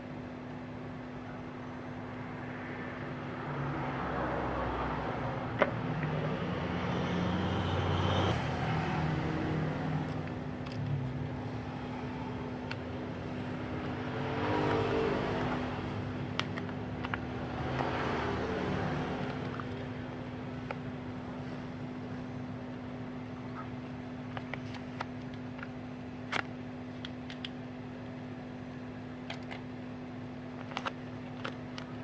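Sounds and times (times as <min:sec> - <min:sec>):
electrical hum: 0:00.0 - 0:32.0
road traffic: 0:00.0 - 0:32.0.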